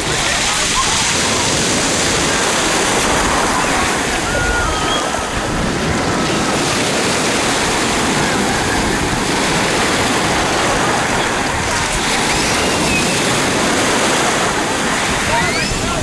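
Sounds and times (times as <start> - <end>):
waves washing over pebbles: 0.0 - 16.0.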